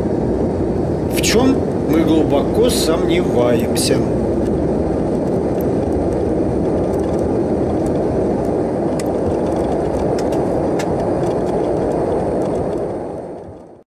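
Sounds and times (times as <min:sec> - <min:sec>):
turboprop engines roaring: 0:00.0 - 0:13.8.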